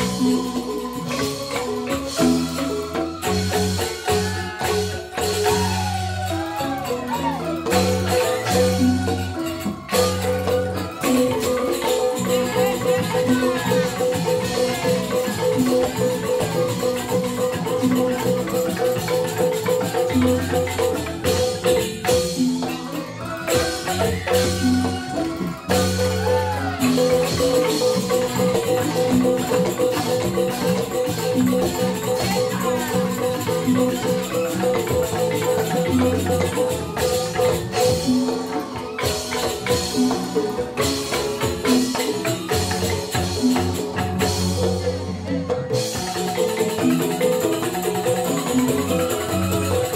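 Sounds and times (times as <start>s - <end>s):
bamboo xylophones playing: 0.0s - 49.9s
sharp percussive hits: 0.0s - 49.9s.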